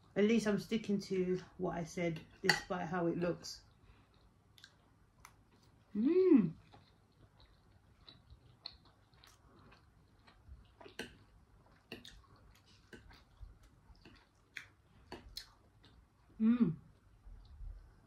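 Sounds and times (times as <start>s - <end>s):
faint chewing: 3.2s - 18.0s.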